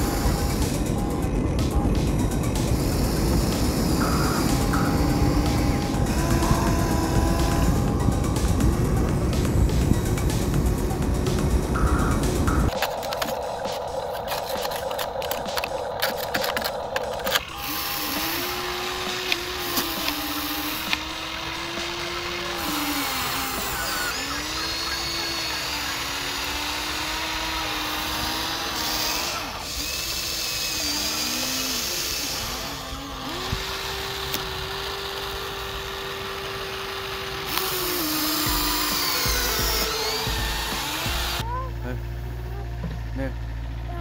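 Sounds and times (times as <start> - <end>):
toy electric motors whining: 0.0 - 44.0.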